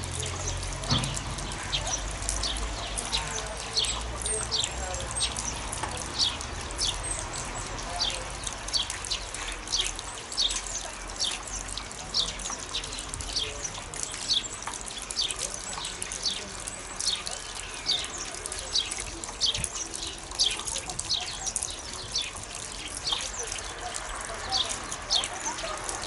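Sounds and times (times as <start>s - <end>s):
sparrows chirping: 0.0s - 26.0s.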